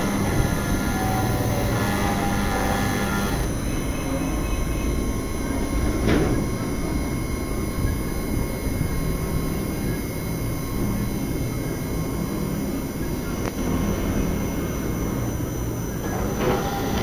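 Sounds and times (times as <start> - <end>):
milling spindle whining: 0.0 - 17.0.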